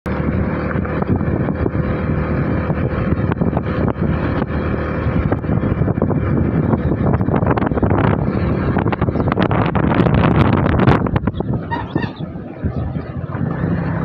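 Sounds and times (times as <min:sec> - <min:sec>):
motorcycle engine running: 0:00.1 - 0:14.0
wind buffeting microphone: 0:00.1 - 0:14.0.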